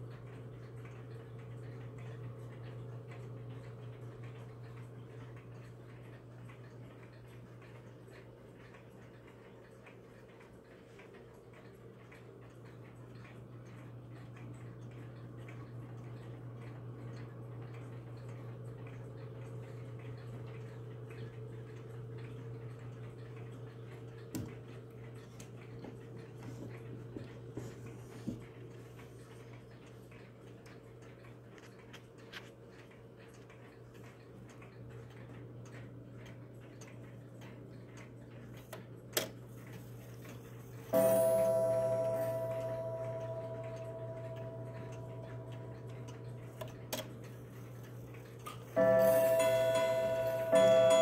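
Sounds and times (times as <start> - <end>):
wall clock ticking: 0.0 - 51.0.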